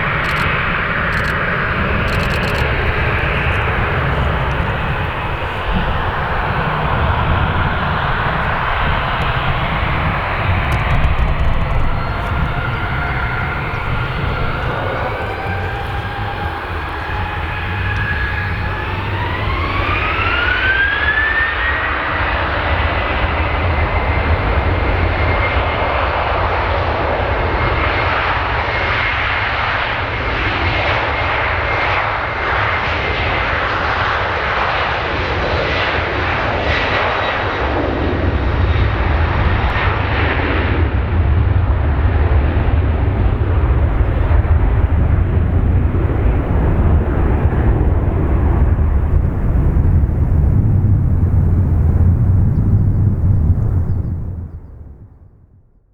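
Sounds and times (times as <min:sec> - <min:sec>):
jet engines spooling up: 0:00.0 - 0:54.6.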